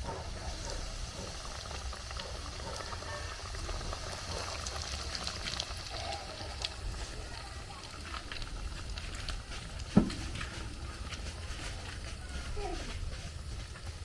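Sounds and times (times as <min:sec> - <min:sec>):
fire crackling: 0:00.0 - 0:14.0
pot bubbling and hissing: 0:00.0 - 0:14.0.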